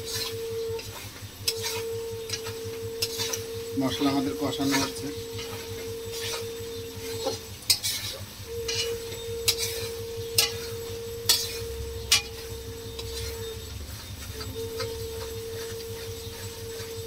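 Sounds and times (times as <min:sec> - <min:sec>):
metal spatula scraping a wok: 0:00.0 - 0:17.0
steady hum: 0:00.0 - 0:17.0.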